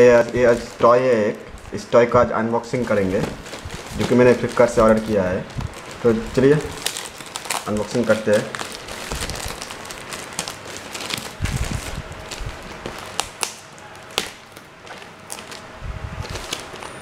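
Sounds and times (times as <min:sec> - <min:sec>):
plastic mailer bag crinkling: 0:00.0 - 0:17.0.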